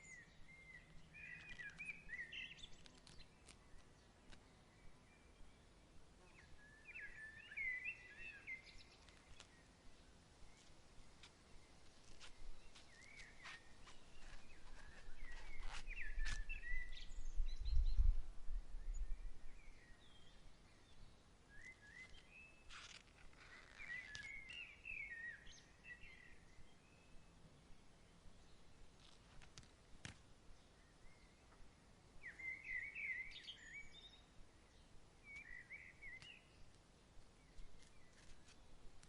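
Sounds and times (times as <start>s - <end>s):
small birds chirping: 0.0s - 18.2s, 18.8s - 39.0s
low rumble of breeze: 0.0s - 39.0s.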